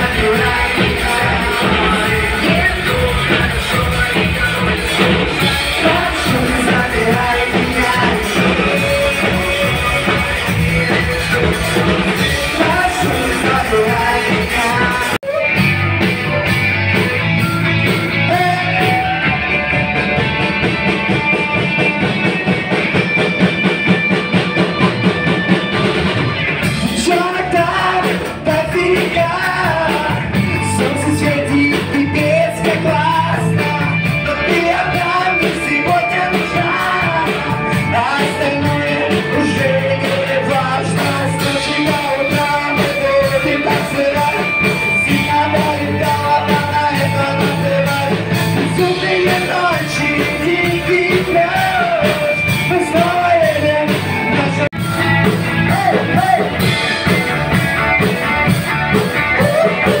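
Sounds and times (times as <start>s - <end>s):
rock band with singing: 0.0s - 60.0s.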